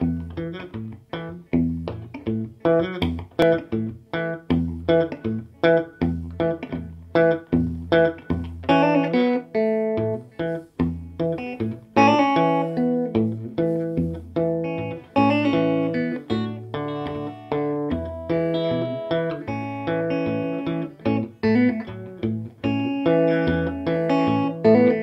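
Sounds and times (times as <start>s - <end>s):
electric guitar notes and chords: 0.0s - 25.0s.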